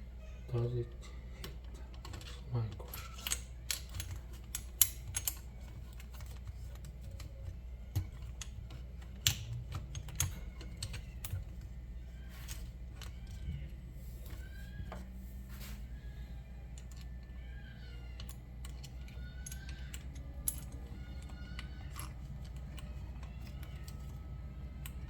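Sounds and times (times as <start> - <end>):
faint squeaky chirps: 0.0 - 4.0, 5.4 - 25.0
steady low hum: 0.0 - 25.0
small metal parts clicking: 1.0 - 13.7, 16.7 - 25.0.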